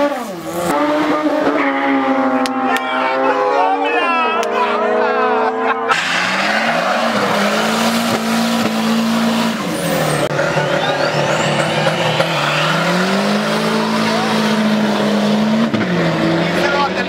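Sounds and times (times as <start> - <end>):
car engines revving high: 0.0 - 17.0
tyre squealing in a burnout: 2.6 - 16.8.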